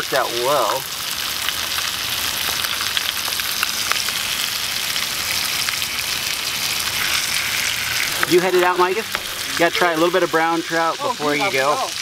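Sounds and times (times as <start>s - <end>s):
fish sizzling in butter: 0.0s - 12.0s.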